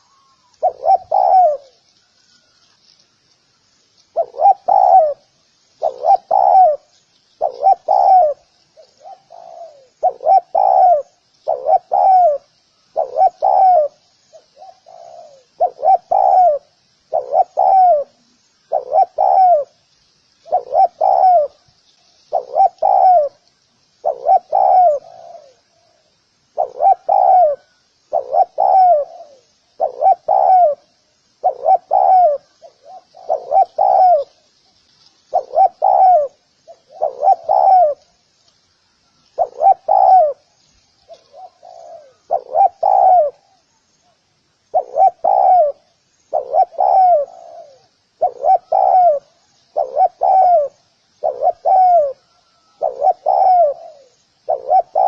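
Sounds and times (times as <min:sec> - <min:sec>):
dove cooing: 0:00.0 - 0:02.4, 0:04.1 - 0:19.8, 0:20.4 - 0:21.6, 0:22.3 - 0:34.5, 0:35.3 - 0:38.2, 0:39.3 - 0:40.5, 0:41.1 - 0:55.0.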